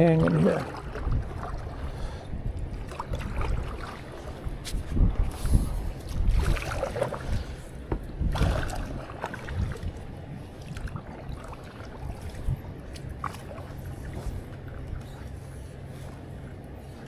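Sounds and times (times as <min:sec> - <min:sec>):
wind buffeting microphone: 0:00.0 - 0:15.2
water sloshing against boat hull: 0:00.0 - 0:17.0.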